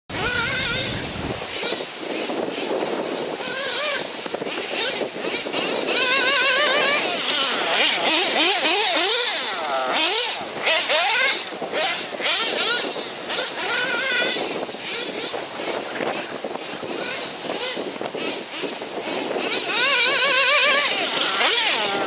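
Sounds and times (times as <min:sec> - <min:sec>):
toy car motor revving: 0:00.1 - 0:22.0
wind gusting over microphone: 0:00.1 - 0:22.0.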